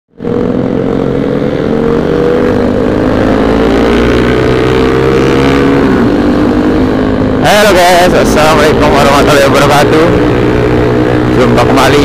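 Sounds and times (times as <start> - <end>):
motorcycle engine cruising: 0.1 - 12.0.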